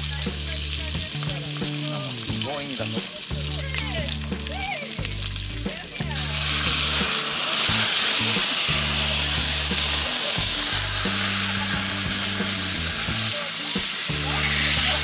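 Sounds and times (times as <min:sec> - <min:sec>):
beef sizzling in a frying pan: 0:00.0 - 0:15.0.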